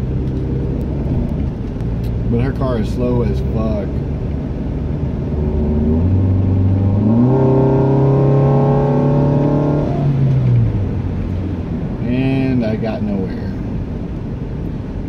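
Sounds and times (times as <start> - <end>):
car engine accelerating: 0.0 - 12.4.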